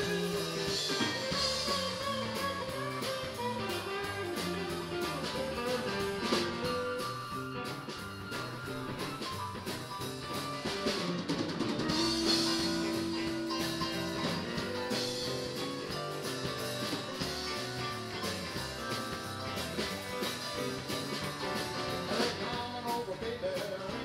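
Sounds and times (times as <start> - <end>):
rock band playing instrumental: 0.0 - 24.0.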